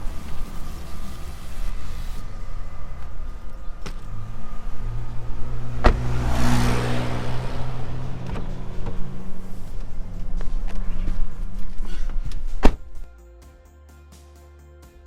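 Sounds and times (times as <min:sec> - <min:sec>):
car engine humming: 0:00.0 - 0:13.1.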